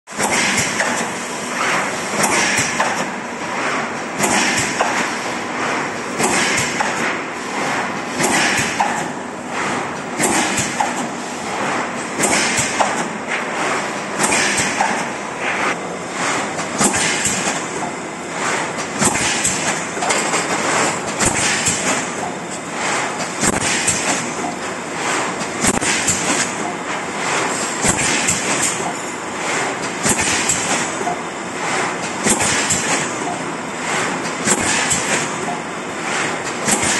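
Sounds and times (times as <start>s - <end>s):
thermoforming machine press thumping: 0.2s - 26.8s, 27.4s - 31.2s, 32.2s - 33.3s, 34.3s - 35.6s.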